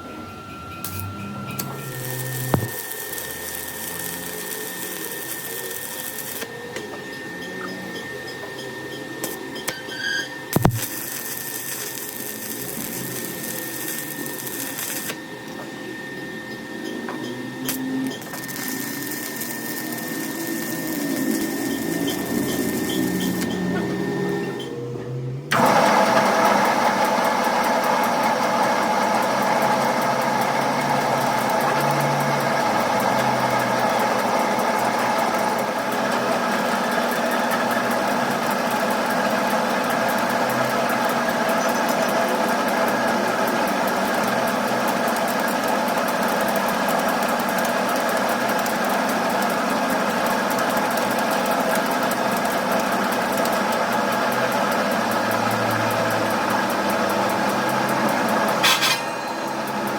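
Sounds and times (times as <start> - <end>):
workshop machine whining: 0.0 - 59.9.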